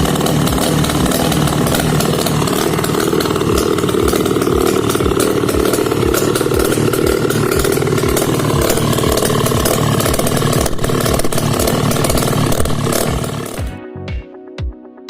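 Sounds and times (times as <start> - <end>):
two-stroke twin engine running: 0.0 - 13.8.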